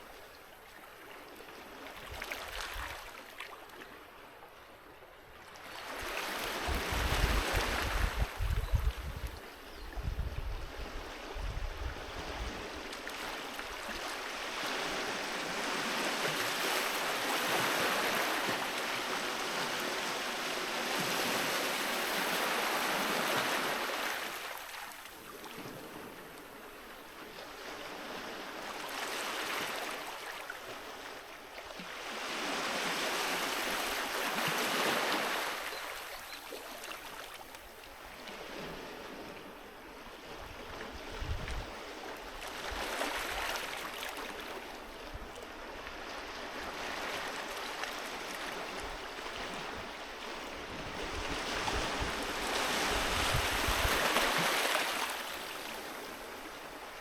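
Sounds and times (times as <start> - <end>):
sea waves breaking on a beach: 0.0 - 57.0.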